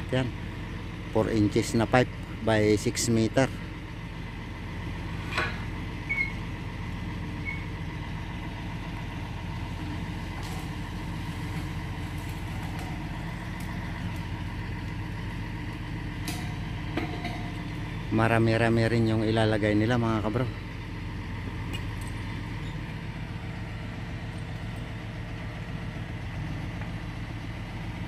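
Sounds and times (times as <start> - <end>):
crane engine idling: 0.0 - 28.0.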